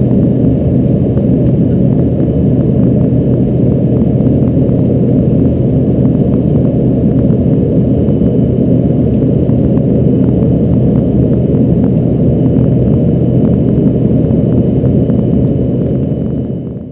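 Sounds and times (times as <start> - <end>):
aircraft cabin engine drone: 0.0 - 16.9
steady hum: 0.0 - 16.9.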